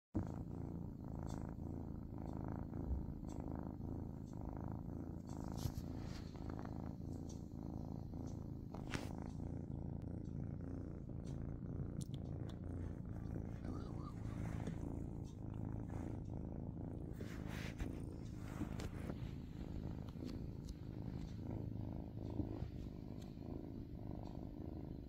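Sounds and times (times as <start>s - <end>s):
kitten purring: 0.2s - 25.0s.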